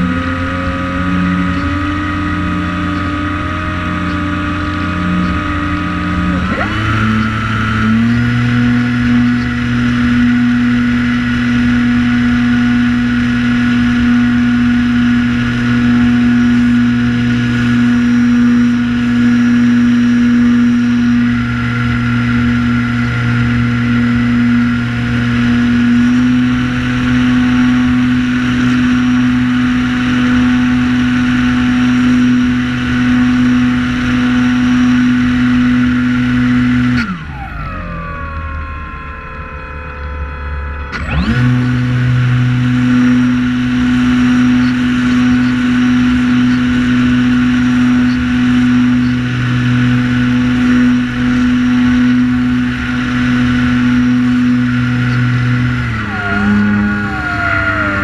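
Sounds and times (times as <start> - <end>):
drone buzzing in flight: 0.0 - 58.0.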